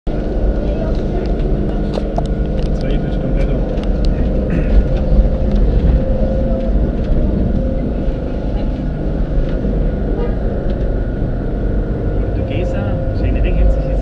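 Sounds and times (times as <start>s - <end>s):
faint whining tones: 0.1s - 14.0s
tram wheels rumbling on rails: 0.1s - 14.0s.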